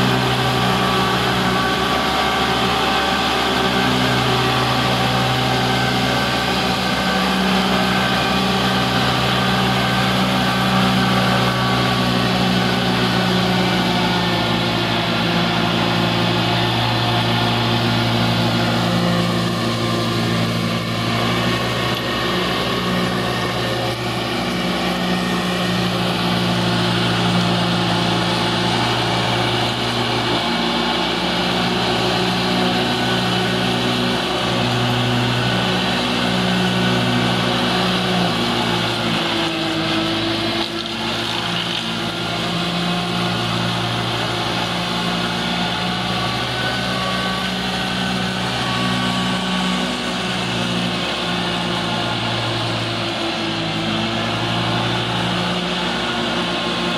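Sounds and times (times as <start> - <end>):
rotary mower cutting grass: 0.0 - 56.9
tractor engine running under load: 0.0 - 56.9.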